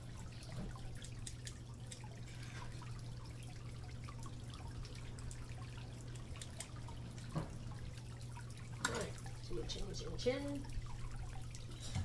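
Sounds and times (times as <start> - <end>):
steady low hum: 0.0 - 12.0
water dripping and trickling: 0.0 - 12.0.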